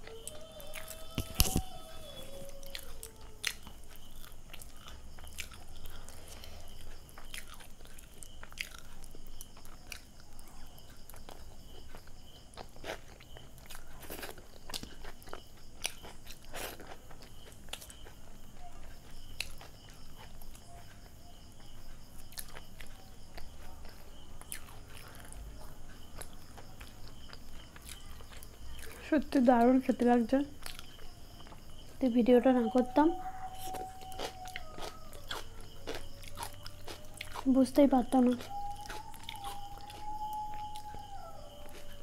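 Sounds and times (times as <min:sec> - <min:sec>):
person chewing food: 0:00.0 - 0:29.0, 0:30.5 - 0:32.0, 0:32.8 - 0:42.0.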